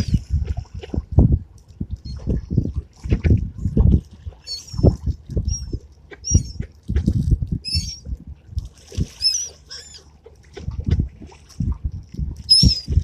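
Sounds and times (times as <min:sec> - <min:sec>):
low thumps and rumble: 0:00.0 - 0:09.2, 0:10.4 - 0:13.0.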